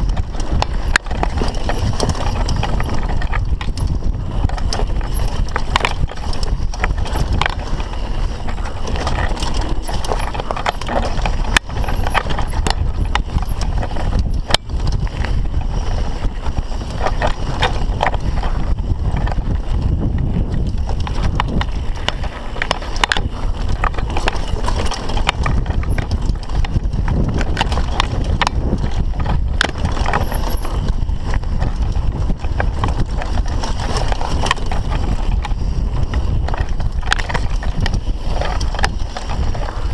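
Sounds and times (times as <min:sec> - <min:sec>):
mountain bike rattling on trail: 0:00.0 - 0:39.9
wind on microphone: 0:00.0 - 0:39.9.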